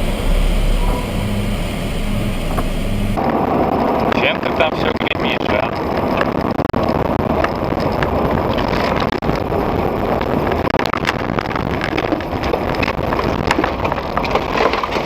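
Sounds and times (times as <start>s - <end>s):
car road and engine noise: 0.0s - 15.0s
sharp clicks and rattles: 0.0s - 15.0s.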